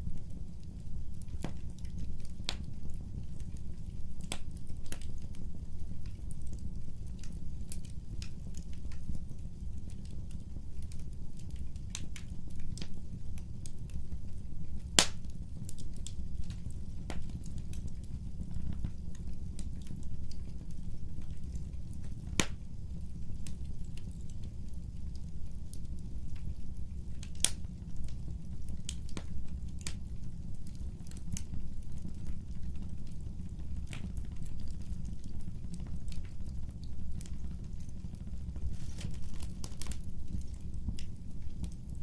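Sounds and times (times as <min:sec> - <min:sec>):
burning wood crackling and popping: 0:00.0 - 0:42.0
low rumble of flames: 0:00.0 - 0:42.0.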